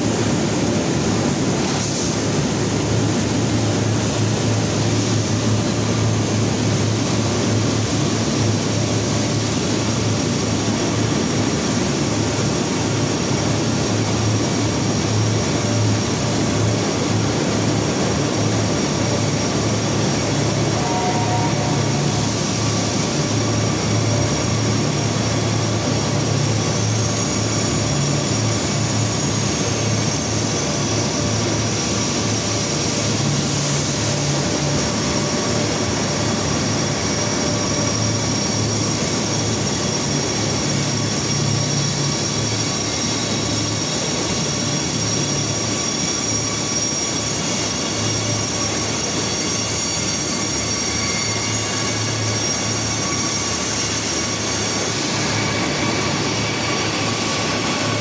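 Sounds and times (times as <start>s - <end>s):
industrial drone of rolling mill: 0.0s - 58.0s
thin high whine: 0.1s - 58.0s.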